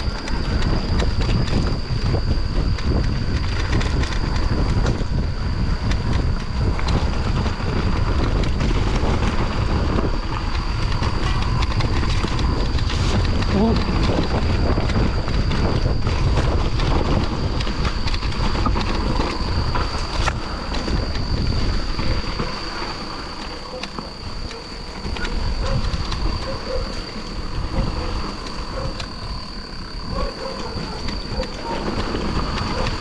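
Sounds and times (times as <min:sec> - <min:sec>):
bike rolling over rough trail: 0:00.0 - 0:33.0
wind on microphone: 0:00.0 - 0:33.0.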